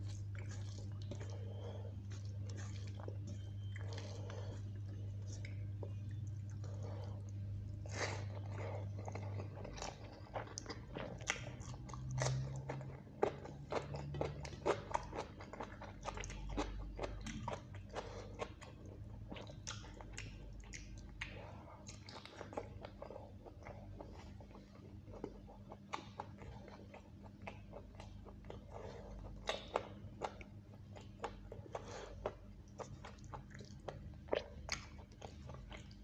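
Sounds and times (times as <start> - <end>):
person chewing wetly: 0.0 - 36.0.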